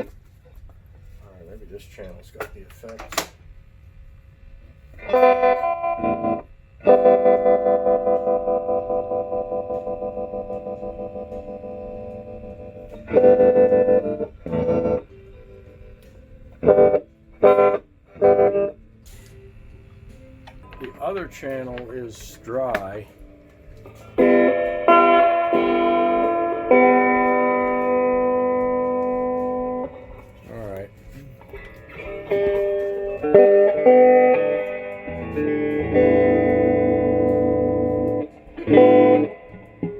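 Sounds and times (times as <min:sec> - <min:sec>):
electric guitar chord with tremolo: 0:04.9 - 0:39.9.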